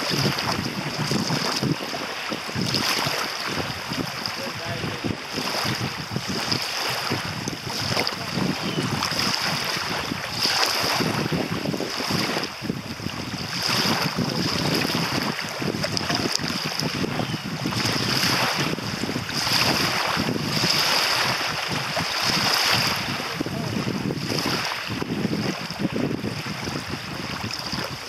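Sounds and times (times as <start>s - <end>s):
small waves lapping on sand: 0.0s - 28.0s
wind buffeting microphone: 0.0s - 28.0s.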